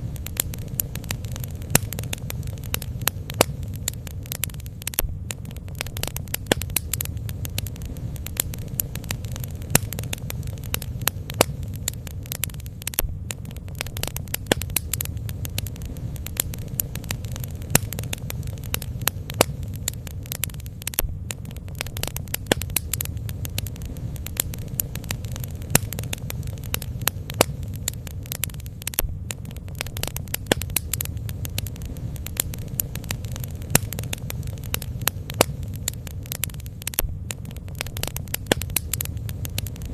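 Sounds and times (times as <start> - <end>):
fire low rumble: 0.0 - 39.9
wood crackling and popping: 0.0 - 39.9.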